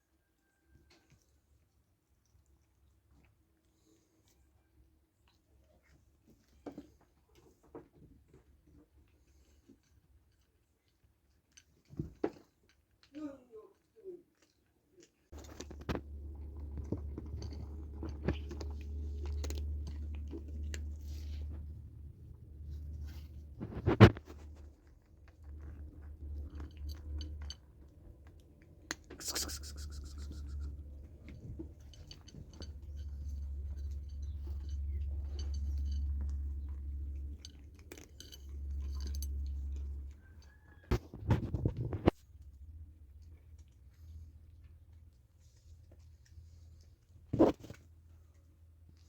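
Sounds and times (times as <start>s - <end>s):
cats chewing and crunching food: 0.0s - 49.0s.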